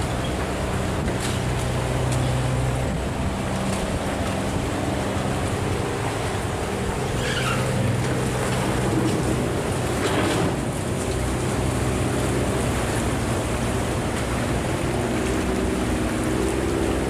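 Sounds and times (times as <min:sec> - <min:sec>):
diesel engine humming: 0:00.0 - 0:17.0
water rushing along hull: 0:00.0 - 0:17.0.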